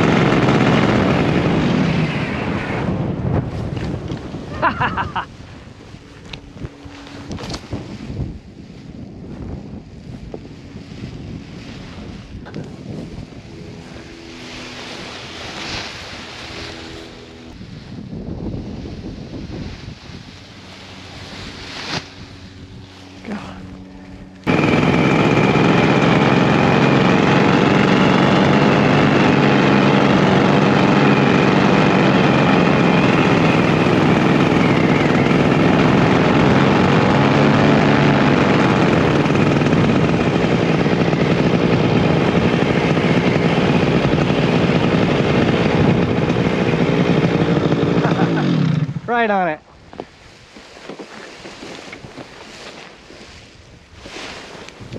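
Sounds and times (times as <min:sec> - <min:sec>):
paramotor engine and propeller: 0:00.0 - 0:54.9.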